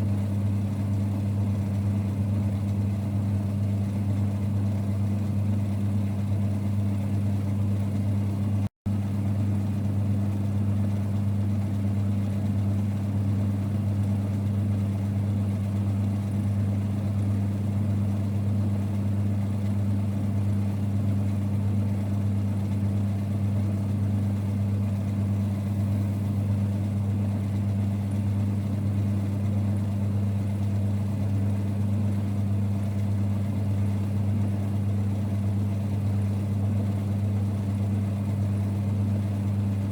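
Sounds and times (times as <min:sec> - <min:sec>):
lathe running with low hum: 0:00.0 - 0:39.9.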